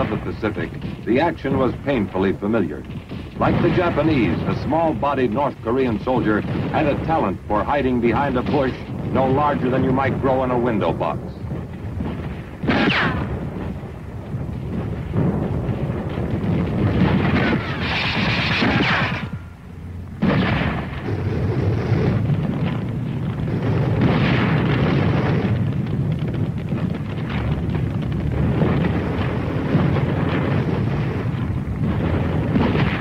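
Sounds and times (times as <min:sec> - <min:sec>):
explosions and gunfire: 0:00.0 - 0:33.0.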